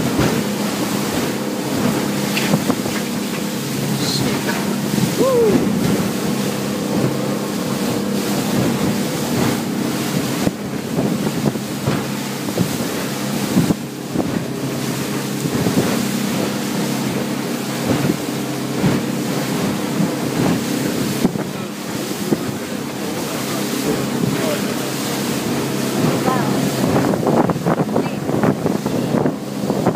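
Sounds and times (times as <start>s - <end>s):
hull knocking on waves: 0.0s - 29.9s
speedboat engine drone: 0.0s - 29.9s
water rushing along hull: 0.0s - 29.9s
wind buffeting microphone: 0.0s - 29.9s.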